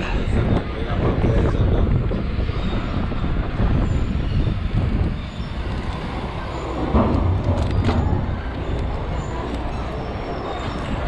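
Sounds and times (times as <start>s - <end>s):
wind buffeting microphone: 0.0s - 11.0s
bike tyre and frame rattle: 2.1s - 11.0s.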